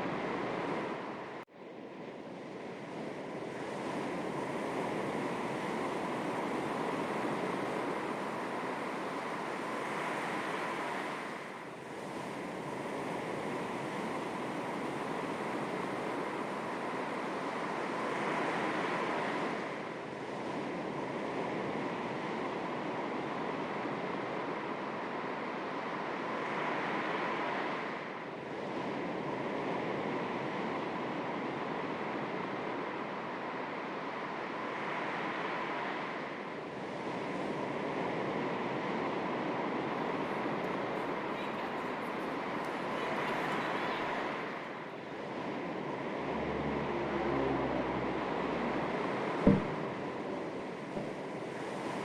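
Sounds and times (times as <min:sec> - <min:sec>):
sea waves lapping on shore: 0:02.4 - 0:24.2, 0:32.1 - 0:52.0.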